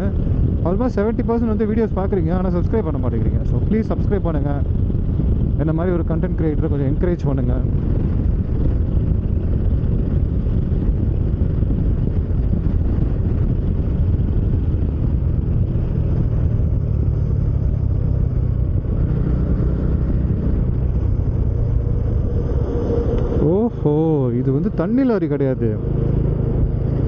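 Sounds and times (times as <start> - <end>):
motorcycle engine running: 0.0 - 27.0
rush of riding wind: 0.0 - 27.0.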